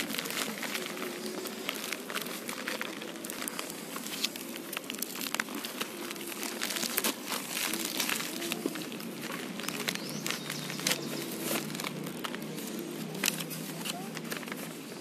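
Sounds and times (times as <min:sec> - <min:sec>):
plastic bag crinkling and tearing: 0:00.0 - 0:15.0.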